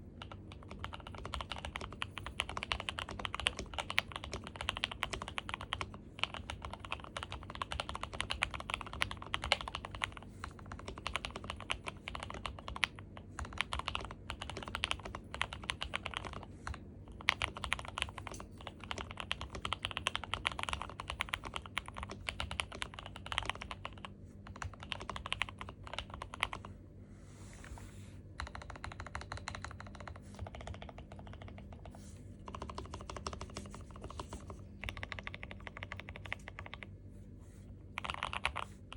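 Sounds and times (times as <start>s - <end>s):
mechanical keyboard typing: 0.2s - 26.7s, 28.4s - 36.9s, 38.0s - 38.7s.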